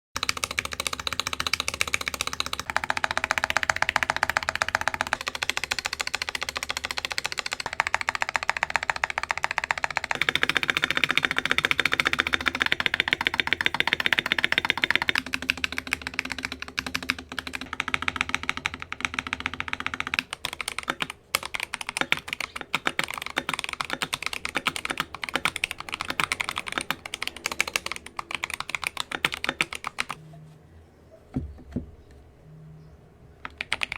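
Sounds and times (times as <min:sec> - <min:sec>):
mechanical keyboard typing: 0:00.2 - 0:30.2, 0:33.4 - 0:33.9.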